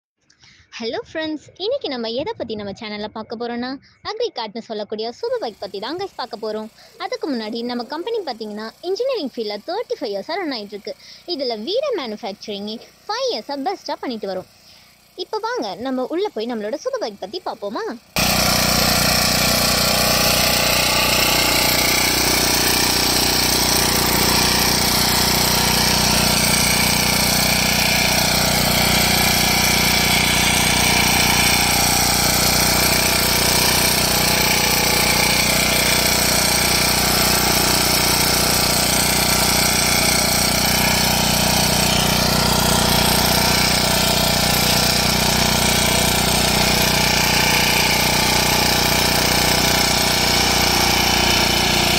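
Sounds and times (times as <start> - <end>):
weeder engine droning: 5.4 - 51.9.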